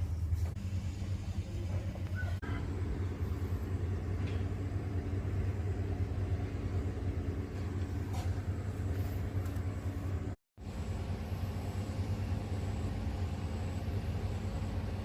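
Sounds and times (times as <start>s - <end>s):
low rumble with hum: 0.0s - 15.0s.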